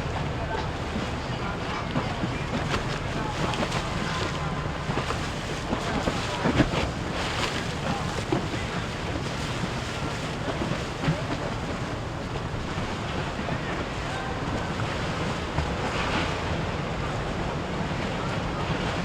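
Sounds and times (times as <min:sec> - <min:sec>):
boat engines running: 0:00.0 - 0:19.0
water and waves churning: 0:00.0 - 0:19.0.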